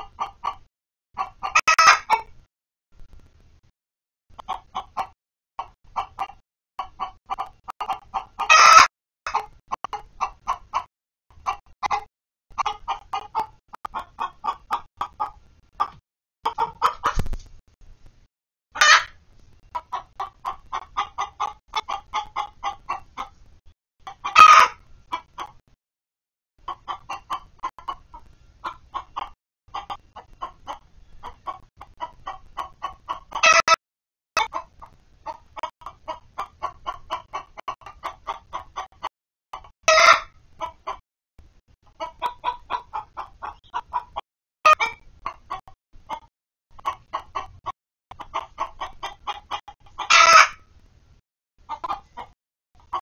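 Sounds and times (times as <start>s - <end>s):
hens clucking: 0.0s - 2.3s, 4.3s - 17.4s, 18.8s - 25.7s, 26.6s - 33.8s, 34.4s - 41.0s, 41.8s - 50.7s, 51.6s - 53.0s
harsh hen squawks: 0.0s - 2.4s, 4.4s - 17.2s, 18.7s - 23.4s, 24.0s - 25.6s, 26.6s - 33.8s, 34.4s - 41.0s, 41.9s - 50.7s, 51.7s - 53.0s.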